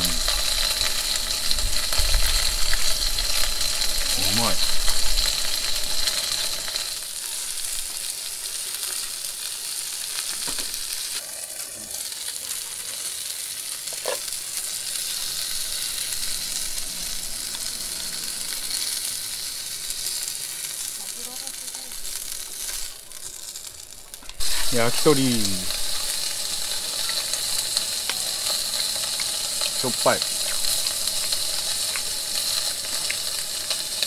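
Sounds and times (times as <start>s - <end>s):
meat sizzling in a grill pan: 0.0s - 34.0s.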